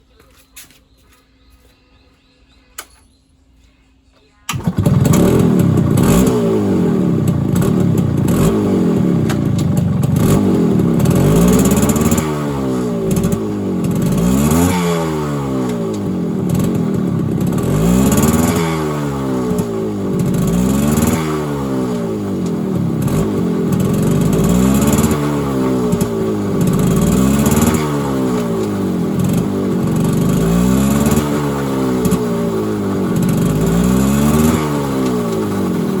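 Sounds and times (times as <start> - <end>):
motorcycle engine revving: 4.5 - 36.0.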